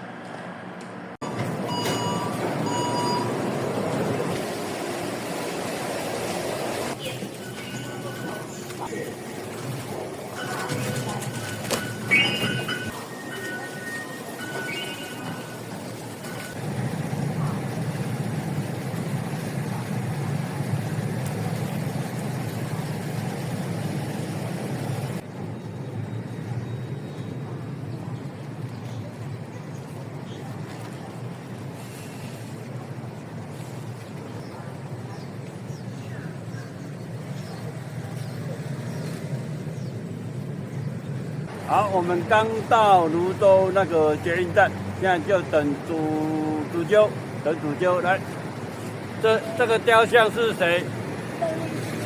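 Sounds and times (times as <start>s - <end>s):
metro train rumbling: 0.0s - 52.0s.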